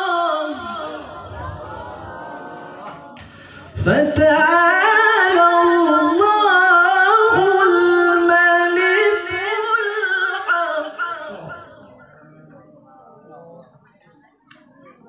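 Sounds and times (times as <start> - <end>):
man chanting through a microphone: 0.0 - 2.0, 2.6 - 13.8.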